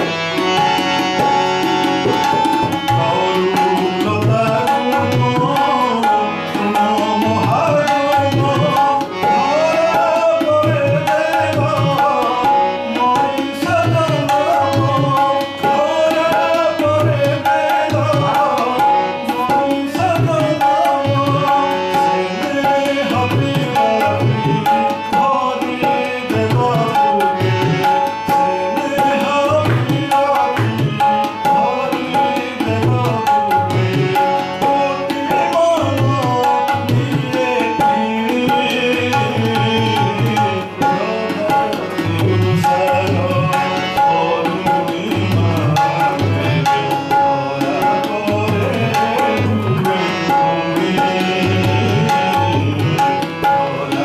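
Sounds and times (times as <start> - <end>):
harmonium melody: 0.0 - 54.0
man singing: 0.0 - 54.0
tabla drumming: 0.0 - 54.0.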